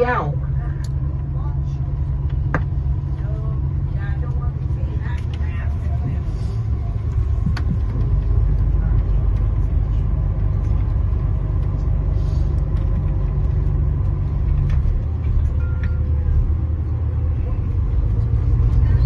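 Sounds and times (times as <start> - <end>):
bus engine and road drone: 0.0 - 19.0.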